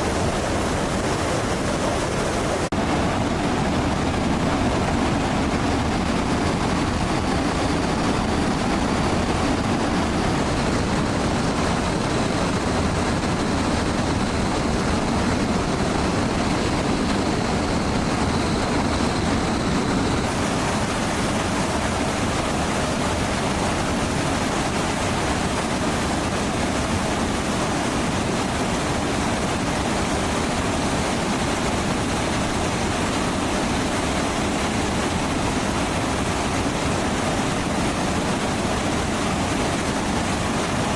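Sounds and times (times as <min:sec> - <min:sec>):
jet aircraft rushing noise: 0:00.0 - 0:40.9.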